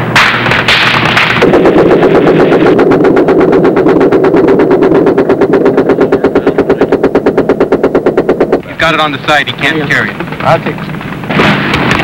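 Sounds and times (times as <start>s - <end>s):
machine gun firing bursts: 0.0s - 12.0s
steady drone: 0.0s - 12.0s.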